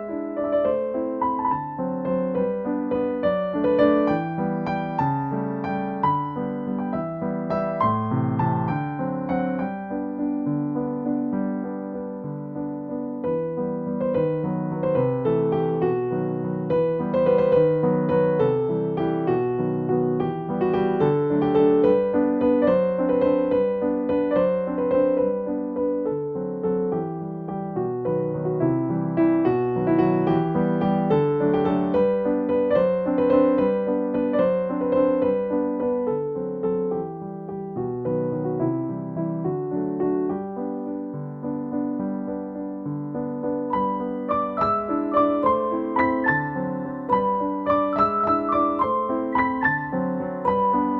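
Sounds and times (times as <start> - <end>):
gentle piano music: 0.0 - 50.9.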